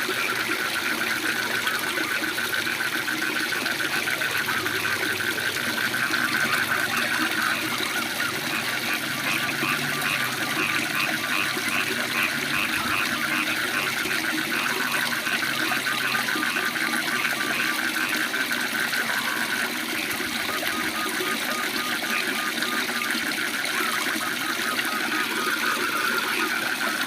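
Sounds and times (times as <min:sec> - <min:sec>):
frogs calling: 0:00.0 - 0:27.0
waterfall rushing: 0:00.0 - 0:27.0.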